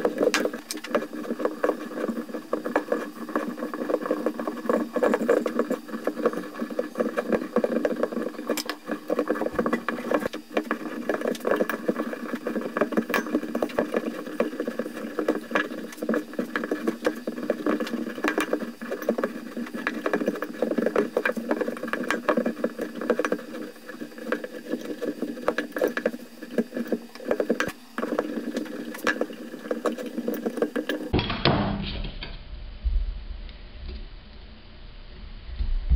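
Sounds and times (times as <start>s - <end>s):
wire wool crackling and rustling: 0.0s - 31.2s.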